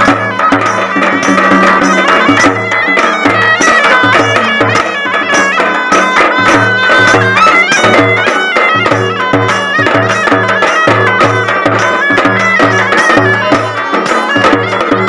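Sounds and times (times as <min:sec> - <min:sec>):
barrel drum beaten with stick: 0:00.0 - 0:15.0
frame drum beaten with stick: 0:00.0 - 0:15.0
reedy wind instrument melody: 0:00.0 - 0:15.0.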